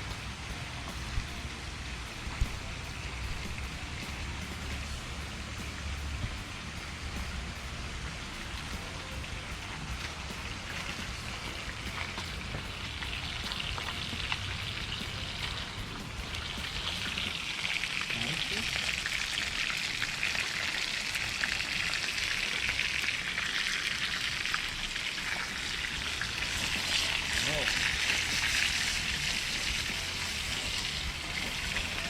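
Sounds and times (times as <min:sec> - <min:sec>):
fish sizzling in hot oil: 0:00.0 - 0:32.0.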